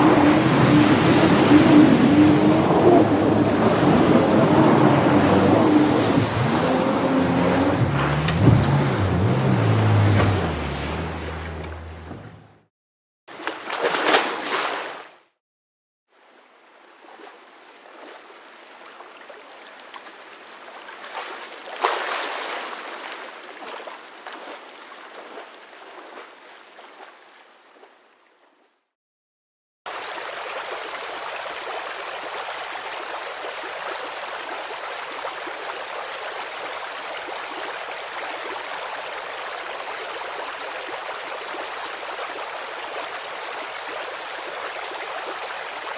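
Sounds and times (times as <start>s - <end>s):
babbling creek: 0.0s - 12.7s, 16.1s - 28.9s, 29.9s - 45.9s.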